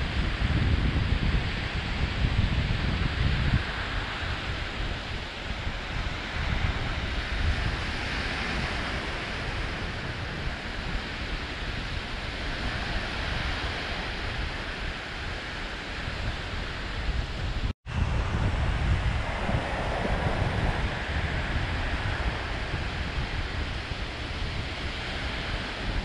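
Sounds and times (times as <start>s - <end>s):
small waves washing on sand: 0.0s - 26.0s
wind buffeting microphone: 0.0s - 26.0s.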